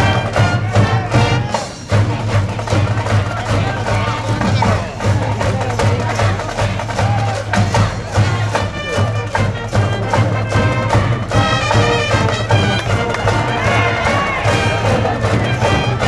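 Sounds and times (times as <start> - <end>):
brass band playing: 0.0 - 16.0
crowd cheering voices: 0.0 - 16.0
steady drum beat: 0.0 - 16.0.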